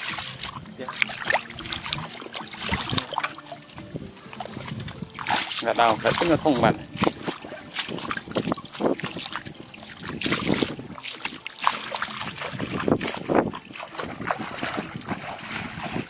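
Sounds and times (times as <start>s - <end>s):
footsteps splashing through water: 0.0s - 16.0s.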